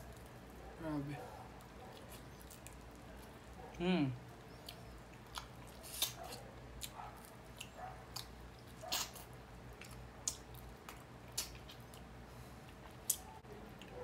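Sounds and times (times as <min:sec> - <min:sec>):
chewing with wet smacks: 0:00.0 - 0:14.0.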